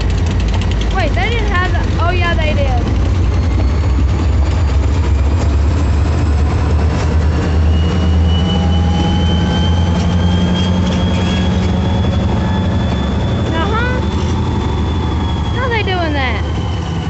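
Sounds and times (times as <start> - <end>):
locomotive engine rumble: 0.0 - 17.0
faint rising whine: 3.2 - 17.0.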